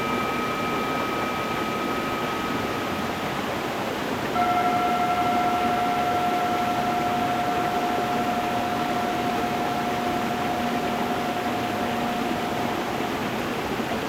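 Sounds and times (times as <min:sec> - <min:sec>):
singing bowl ringing: 0:00.0 - 0:14.0.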